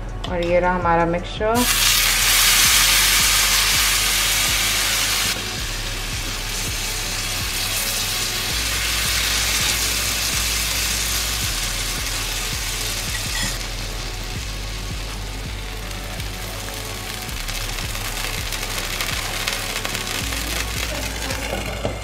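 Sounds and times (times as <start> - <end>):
batter sizzling on a griddle: 1.6 - 21.8.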